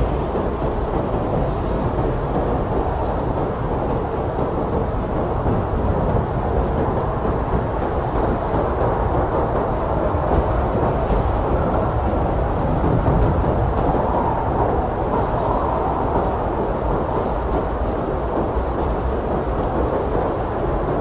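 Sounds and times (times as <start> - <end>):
blizzard wind blowing hard: 0.0 - 21.0.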